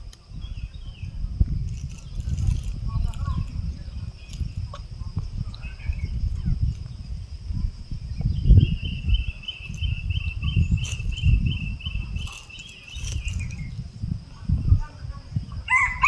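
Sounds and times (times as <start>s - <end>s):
insect chirping trill: 0.0s - 16.0s
insects high-pitched drone: 0.0s - 16.0s.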